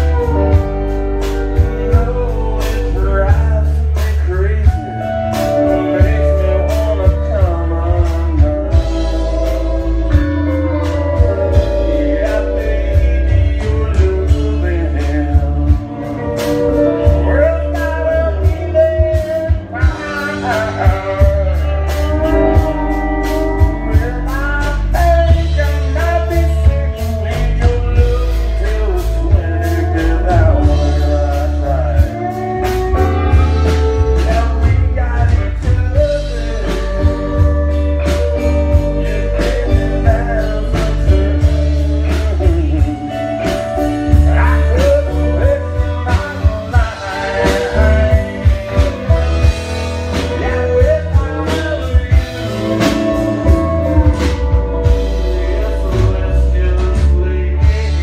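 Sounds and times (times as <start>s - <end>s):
drums keeping a steady beat: 0.0s - 58.0s
electric bass: 0.0s - 58.0s
guitar: 0.0s - 58.0s
person singing: 0.0s - 58.0s.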